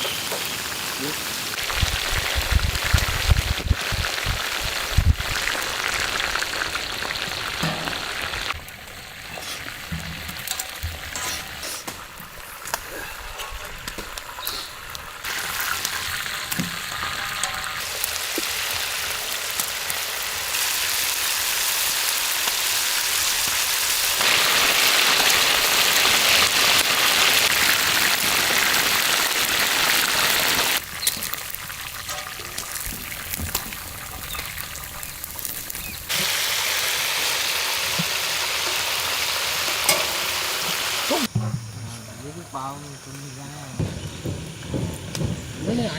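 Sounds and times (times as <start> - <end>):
chicken frying in hot oil: 0.0 - 41.4.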